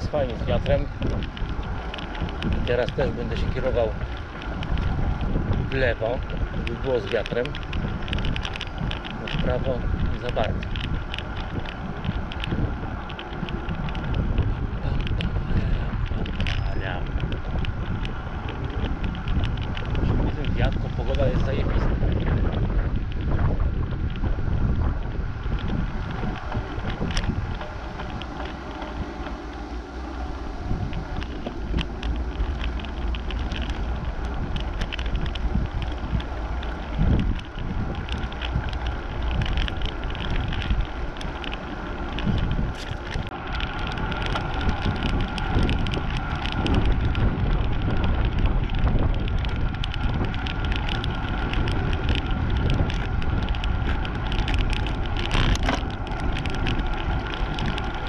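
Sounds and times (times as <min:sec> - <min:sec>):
bike ticks and rattles: 0:00.0 - 0:58.0
tyres rolling on asphalt: 0:00.0 - 0:58.0
wind buffeting microphone: 0:00.0 - 0:58.0.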